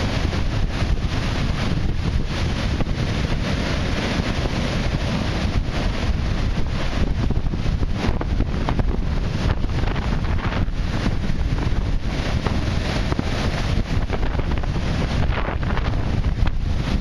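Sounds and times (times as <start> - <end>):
surf breaking around pilings: 0.0 - 17.0
wind buffeting microphone: 0.0 - 17.0.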